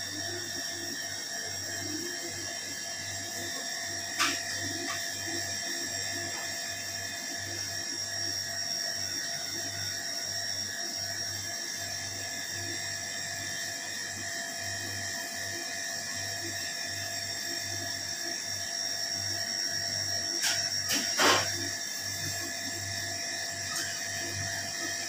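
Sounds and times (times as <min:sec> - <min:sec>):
high-pitched machine whine: 0:00.0 - 0:25.0.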